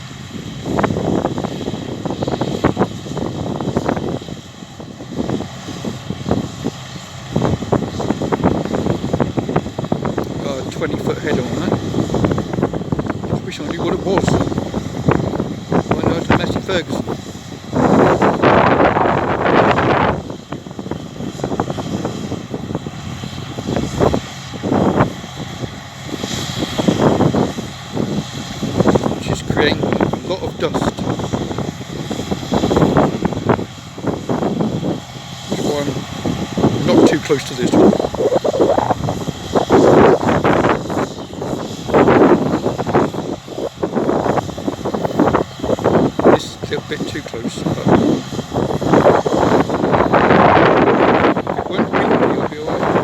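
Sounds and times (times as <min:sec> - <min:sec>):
combine harvester running: 0:00.0 - 0:53.0
wind buffeting microphone: 0:00.0 - 0:53.0.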